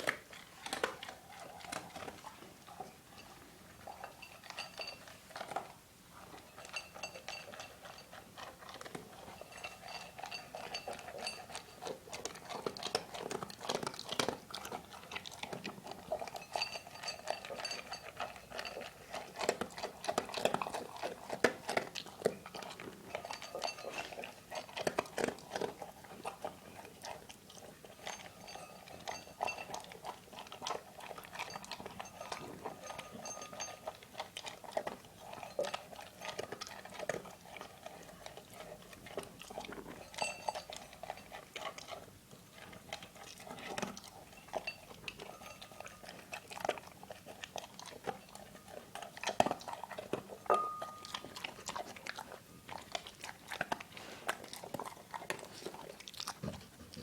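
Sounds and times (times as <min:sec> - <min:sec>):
dog crunching and chewing food: 0:00.0 - 0:57.0.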